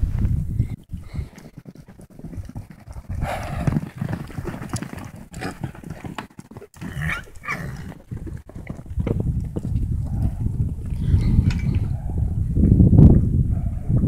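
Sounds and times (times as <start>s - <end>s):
hoofbeats on dirt: 0.6s - 13.2s.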